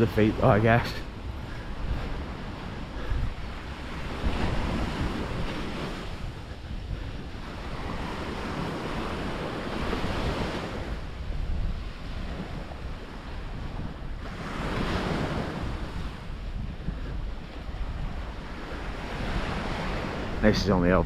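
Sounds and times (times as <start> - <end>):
waves on pebble shore: 0.0 - 16.2, 17.6 - 21.0
wind buffeting microphone: 0.0 - 21.0.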